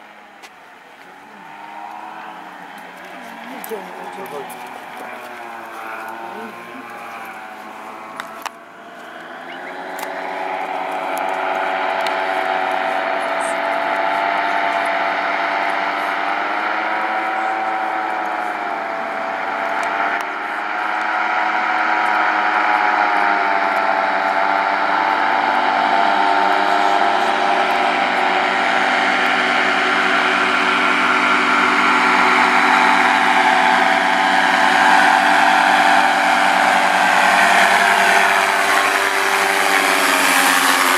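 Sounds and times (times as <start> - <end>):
paramotor engine droning overhead: 0.0 - 40.9.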